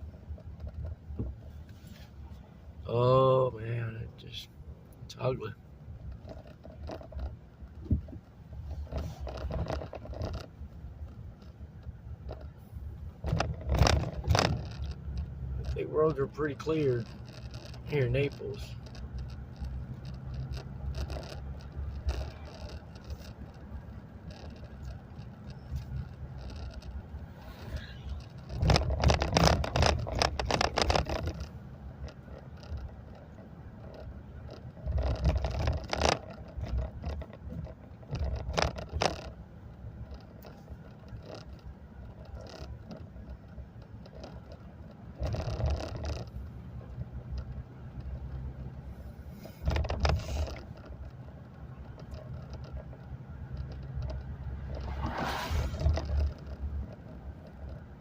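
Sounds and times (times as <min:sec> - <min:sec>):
car road and engine hum: 0:00.0 - 0:58.0.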